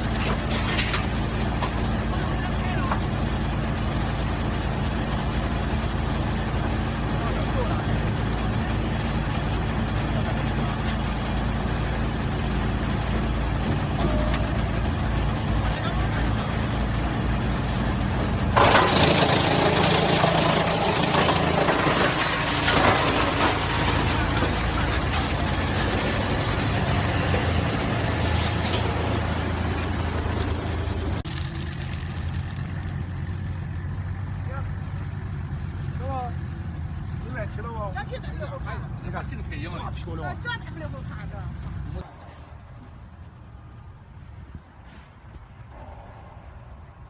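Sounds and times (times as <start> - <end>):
wood chipper droning: 0.0 - 42.1.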